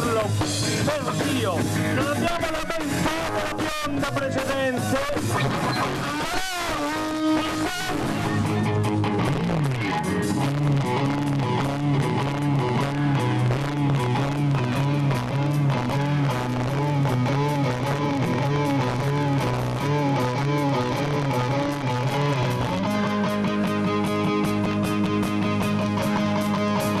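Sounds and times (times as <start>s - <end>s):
bass: 0.0s - 27.0s
drums: 0.0s - 27.0s
electric guitar riff: 0.0s - 27.0s.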